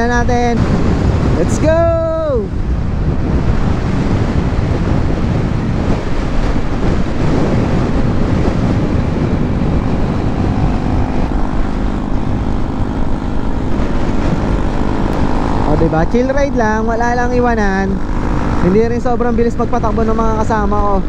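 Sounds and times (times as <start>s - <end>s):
motorcycle engine drone: 0.0s - 21.0s
wind rushing over microphone: 0.0s - 21.0s.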